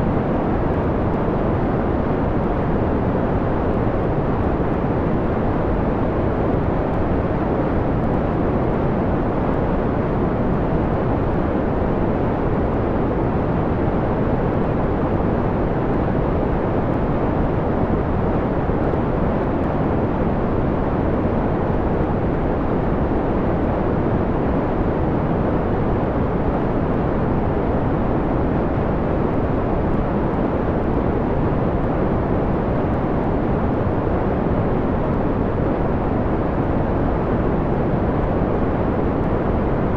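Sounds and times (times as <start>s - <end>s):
filtered low rushing noise: 0.0s - 39.9s.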